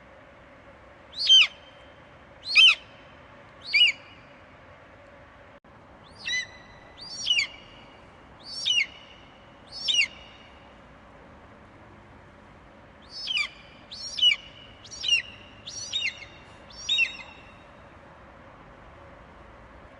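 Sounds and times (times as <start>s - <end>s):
faint steady hiss: 0.0s - 19.9s.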